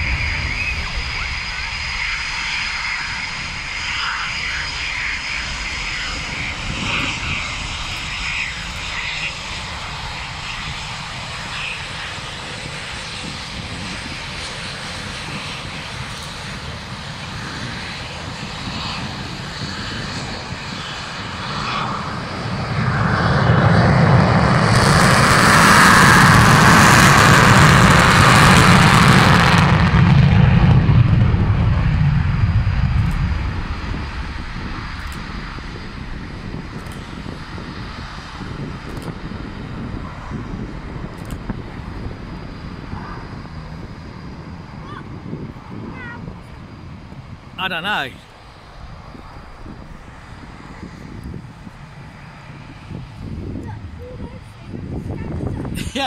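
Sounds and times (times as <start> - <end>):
jet engines whining: 0.0 - 56.0
jet take-off roar: 0.0 - 56.0.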